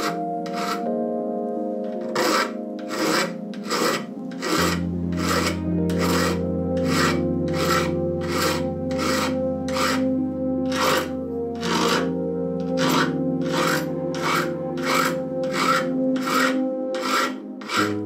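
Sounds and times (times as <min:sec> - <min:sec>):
file strokes on a knife: 0:00.0 - 0:00.9, 0:01.9 - 0:10.1, 0:10.7 - 0:18.0
background music: 0:00.0 - 0:18.0.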